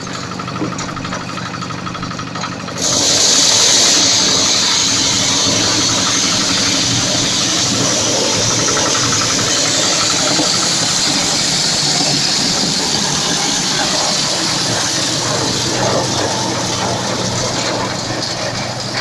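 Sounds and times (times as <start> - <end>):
low engine drone: 0.0 - 19.0
threshing drum hissing rattle: 0.0 - 19.0.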